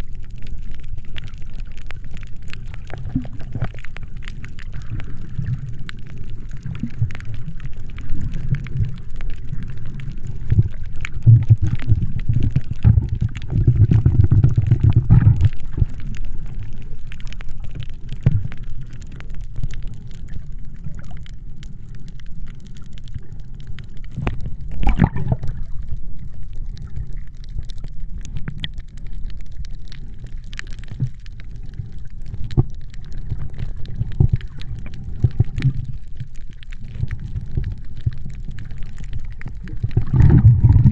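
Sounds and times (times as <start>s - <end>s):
faint clicks and crackles: 0.0s - 40.9s
low underwater water noise: 0.0s - 40.9s.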